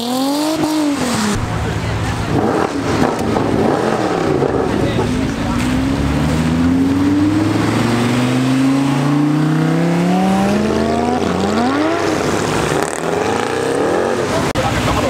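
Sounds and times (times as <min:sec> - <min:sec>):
passing car engine: 0:00.0 - 0:15.0
sports car engine accelerating: 0:00.0 - 0:15.0.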